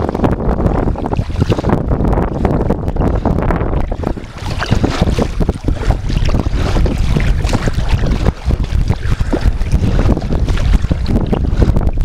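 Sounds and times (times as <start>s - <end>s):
waves lapping against kayak: 0.0s - 12.0s
wind buffeting microphone: 0.0s - 12.0s.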